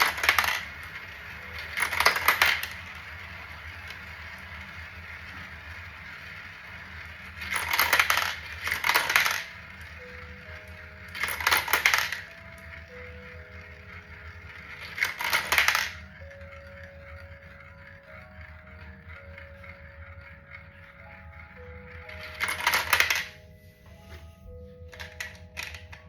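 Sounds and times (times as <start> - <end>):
marbles clicking down a marble run: 0.0 - 23.5, 24.9 - 26.0.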